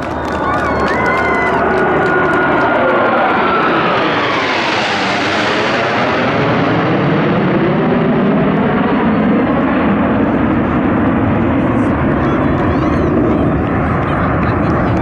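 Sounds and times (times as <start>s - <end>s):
jets roaring overhead: 0.0s - 15.0s.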